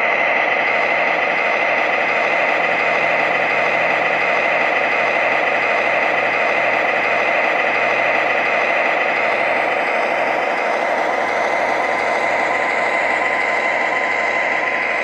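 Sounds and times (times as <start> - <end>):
diesel engine running through small speaker: 0.0 - 15.0.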